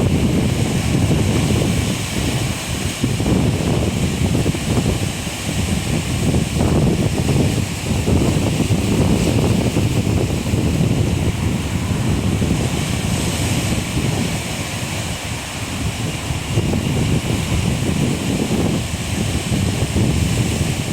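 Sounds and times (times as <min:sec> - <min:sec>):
sea surf washing ashore: 0:00.0 - 0:20.9
wind buffeting microphone: 0:00.0 - 0:20.9.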